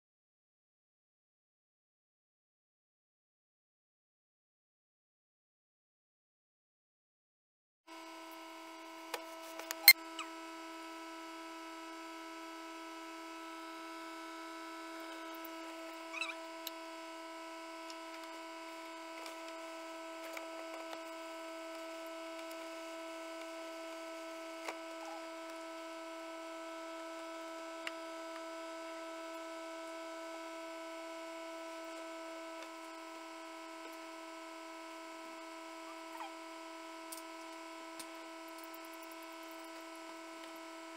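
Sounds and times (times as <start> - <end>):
incubator electric hum: 7.9 - 40.9.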